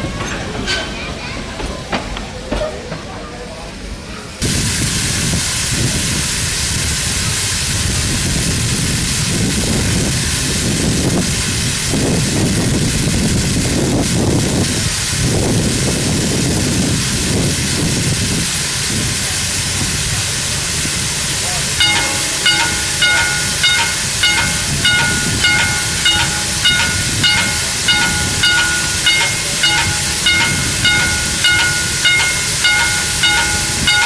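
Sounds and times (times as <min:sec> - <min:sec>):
steam locomotive venting steam: 0:00.0 - 0:34.0.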